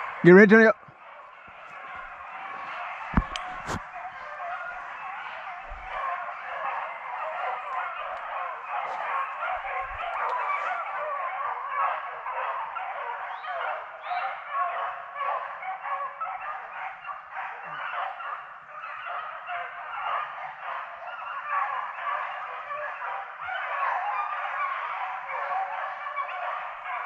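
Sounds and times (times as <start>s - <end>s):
hounds baying: 0.0s - 27.0s.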